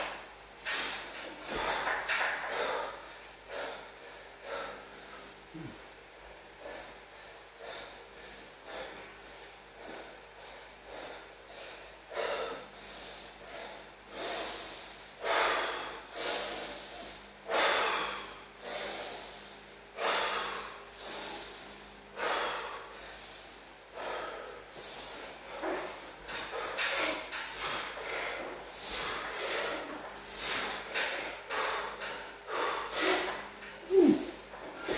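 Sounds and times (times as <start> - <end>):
man breathing hard: 0.0 - 34.9.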